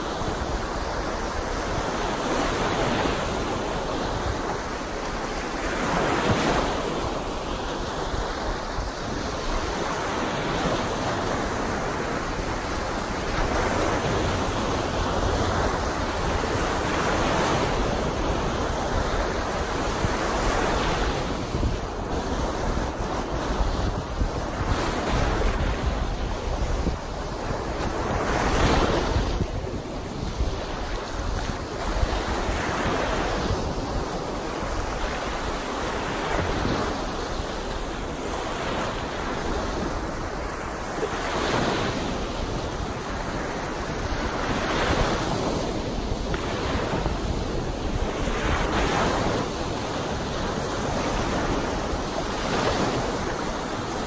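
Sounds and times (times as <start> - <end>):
waves washing up sandy shore: 0.0 - 54.0
wind buffeting microphone: 0.0 - 54.0.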